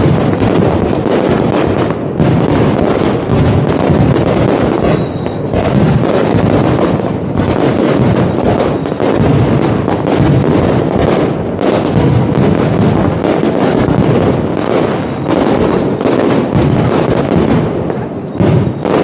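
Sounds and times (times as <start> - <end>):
fireworks shells bursting: 0.0 - 19.0.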